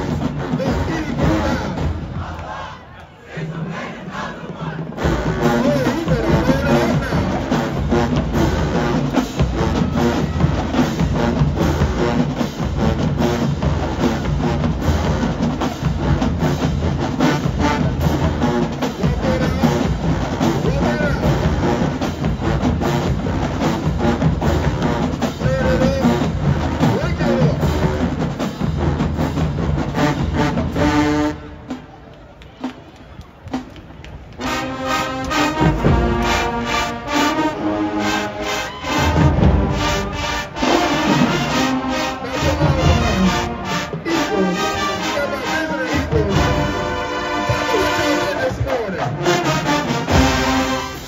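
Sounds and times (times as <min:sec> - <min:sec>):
brass marching band: 0:00.0 - 0:51.0
marching drumline: 0:00.0 - 0:51.0.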